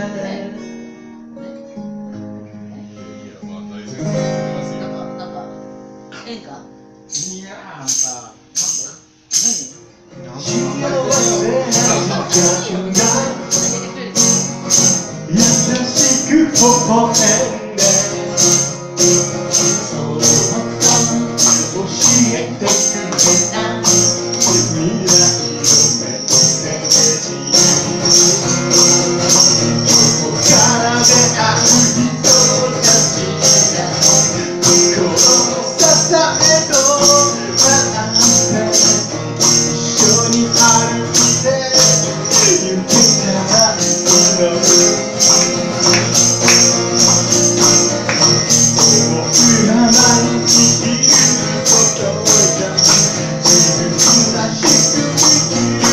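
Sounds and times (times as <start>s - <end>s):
acoustic guitar strumming: 0.0s - 55.9s
tambourine-like beat: 7.1s - 55.9s
person singing: 9.5s - 55.9s.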